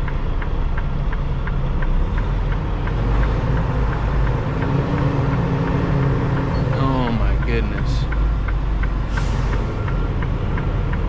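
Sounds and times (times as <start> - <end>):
rapid regular ticking: 0.0 - 9.1
truck diesel engine running: 0.0 - 11.0.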